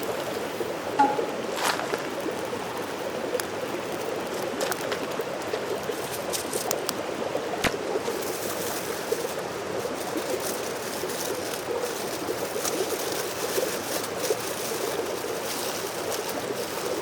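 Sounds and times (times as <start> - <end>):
stream running: 0.0 - 17.0.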